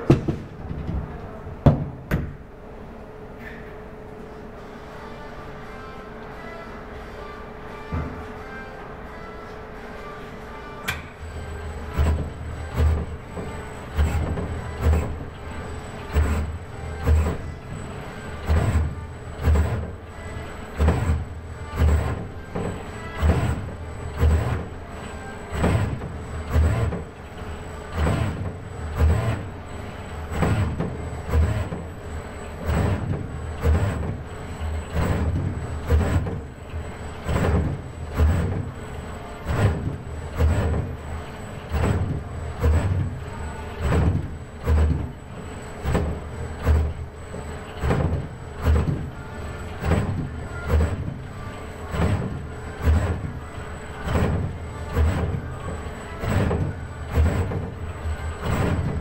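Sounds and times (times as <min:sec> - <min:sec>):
robot arm motors whirring: 0:11.1 - 0:59.0.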